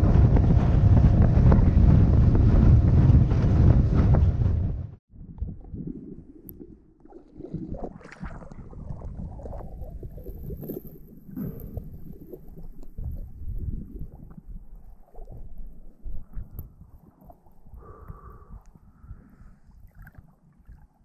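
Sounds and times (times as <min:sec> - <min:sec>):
muffled underwater rumbling: 0:00.0 - 0:21.0.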